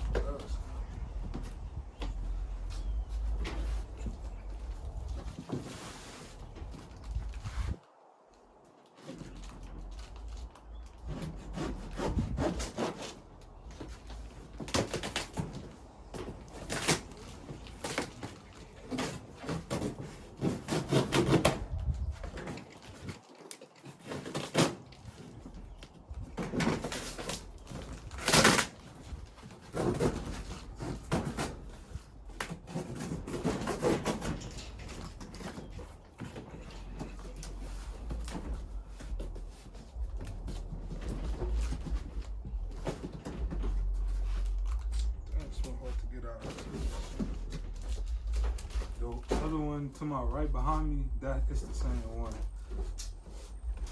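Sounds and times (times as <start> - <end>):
cardboard scraping and knocks: 0.0 - 7.8, 11.0 - 23.2, 23.8 - 53.9.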